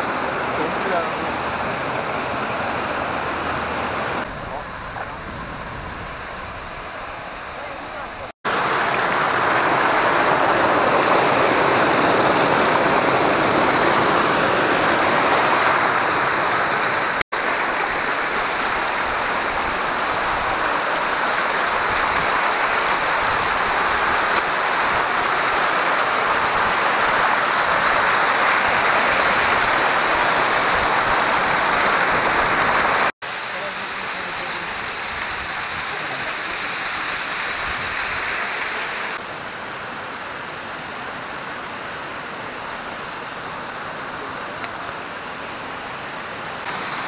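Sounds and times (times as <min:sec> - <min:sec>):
stream rushing over rocks: 0:00.0 - 0:47.0.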